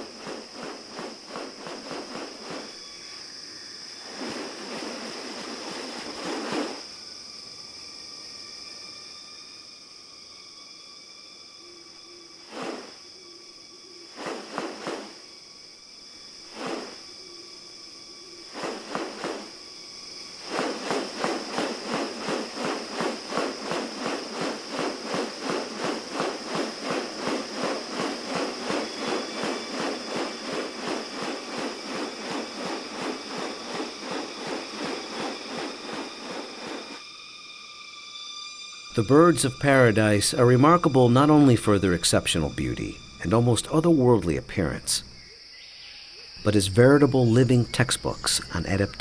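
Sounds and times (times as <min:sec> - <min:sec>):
insect whine: 0:00.0 - 0:49.0.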